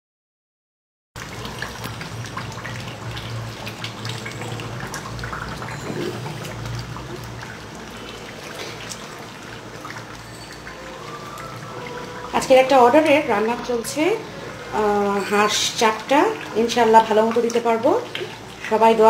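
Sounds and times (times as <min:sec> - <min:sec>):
curry crackling and popping in a pot: 0:01.2 - 0:19.0.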